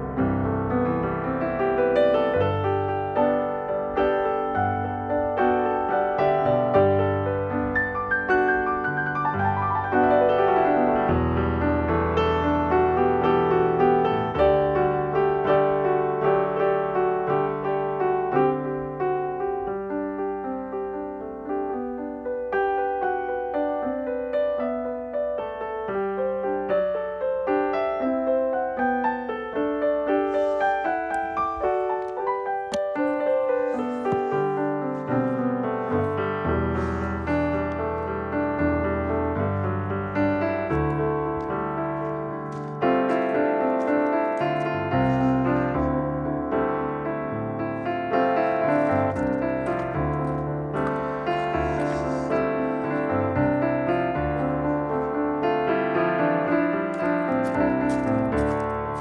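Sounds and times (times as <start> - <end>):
gentle piano melody with chords: 0.0 - 59.0.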